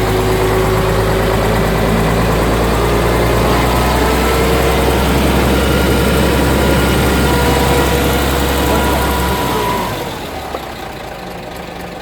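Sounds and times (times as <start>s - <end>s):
diesel engine idling rough: 0.0s - 12.0s.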